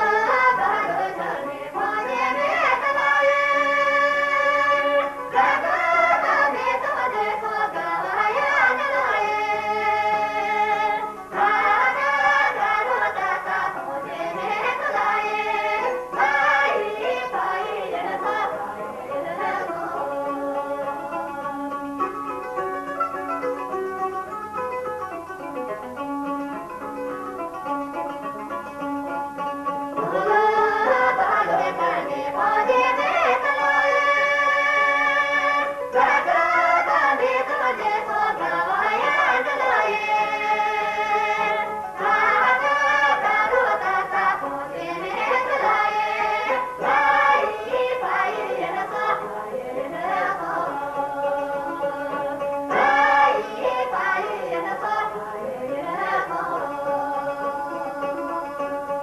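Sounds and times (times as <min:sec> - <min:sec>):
plucked lute: 0:00.0 - 0:59.0
voices singing folk song: 0:00.0 - 0:59.0.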